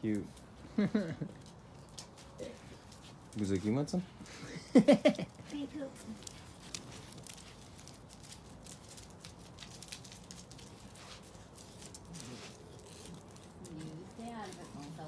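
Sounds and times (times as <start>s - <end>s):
dog claws pattering on asphalt: 0.1s - 15.0s.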